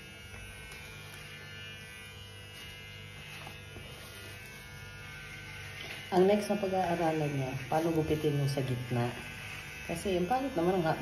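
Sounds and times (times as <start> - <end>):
electric hair clipper buzzing: 0.0 - 11.0.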